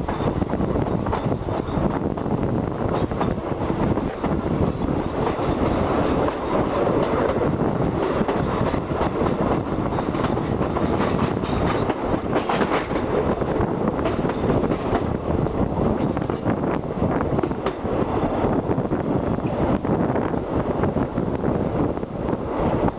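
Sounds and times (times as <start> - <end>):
train rumbling on track: 0.0 - 22.9.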